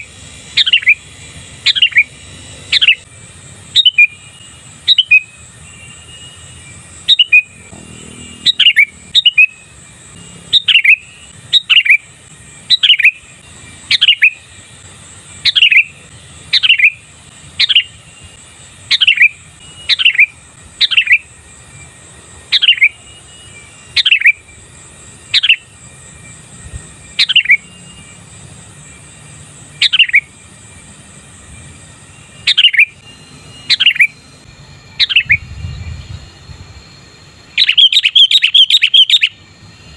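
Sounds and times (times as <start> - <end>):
bulbul calling: 0.0 - 36.5, 37.5 - 39.4.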